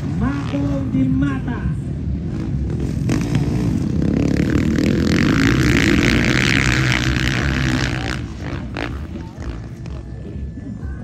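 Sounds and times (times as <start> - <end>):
dirt bike engines running hard: 0.0 - 11.0.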